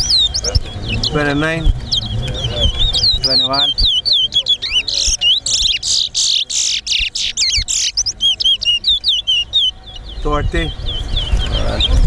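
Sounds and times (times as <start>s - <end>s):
finch singing whistled song: 0.0s - 12.0s.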